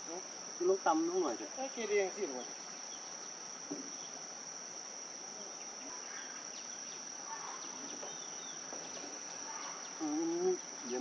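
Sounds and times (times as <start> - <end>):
faint outdoor background noise: 0.0 - 11.0
insects droning: 0.0 - 11.0.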